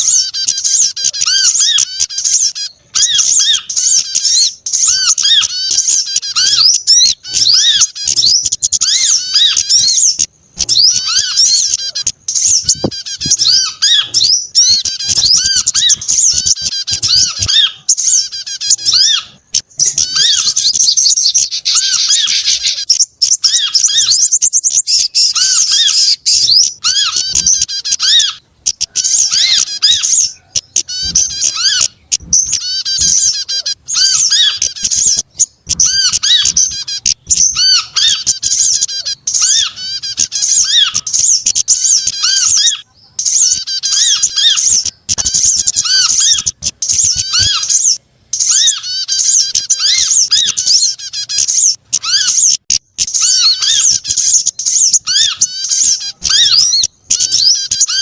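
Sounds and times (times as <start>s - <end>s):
small songbirds chirping and twittering: 0.0s - 58.0s.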